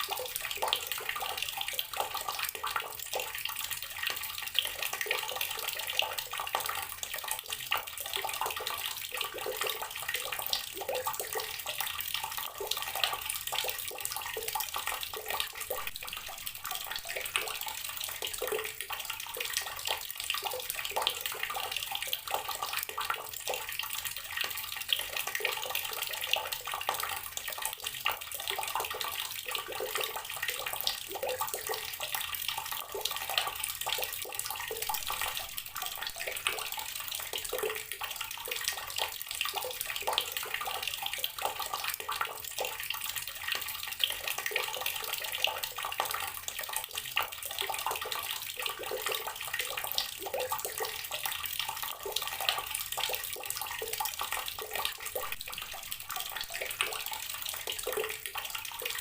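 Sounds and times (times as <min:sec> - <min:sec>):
tap water pouring into water: 0:00.0 - 0:59.0.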